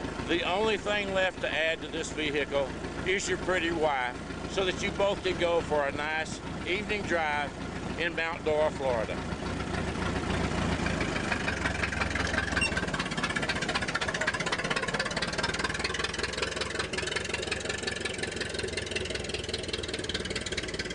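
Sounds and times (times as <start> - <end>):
gasoline engine chugging: 0.0 - 20.9.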